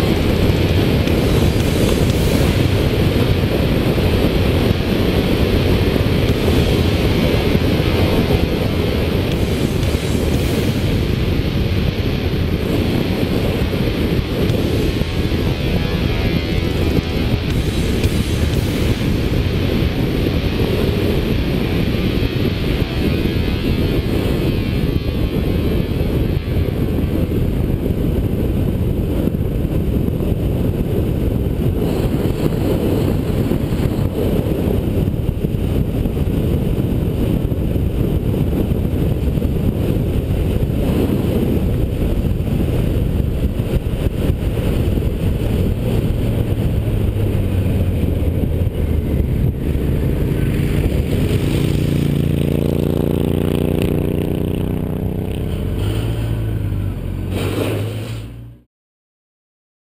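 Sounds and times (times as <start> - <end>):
motorcycle engine running: 0.0 - 58.6
wind rushing over microphone: 0.0 - 58.7.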